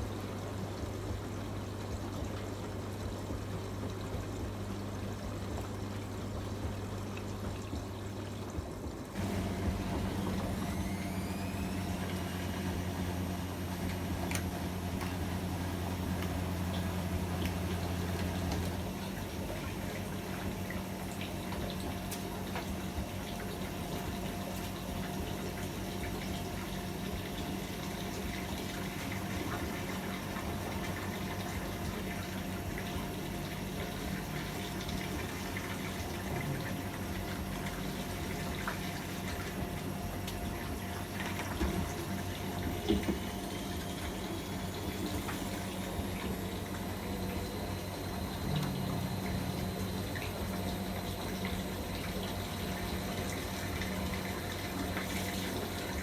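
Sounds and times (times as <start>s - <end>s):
drain pump hum: 0.0s - 56.0s
washing machine drum whir: 0.0s - 56.0s.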